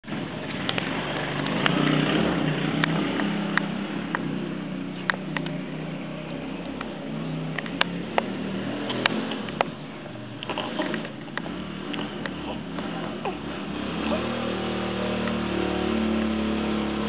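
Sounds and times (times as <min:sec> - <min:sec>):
quad engine droning: 0:00.0 - 0:17.0.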